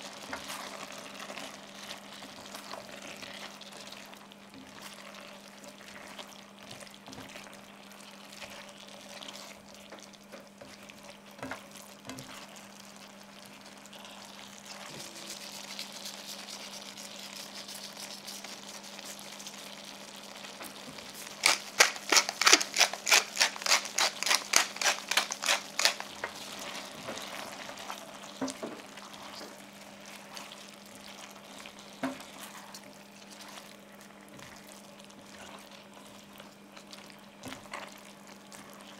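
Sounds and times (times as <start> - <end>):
food sizzling in a frying pan: 0.0 - 38.9.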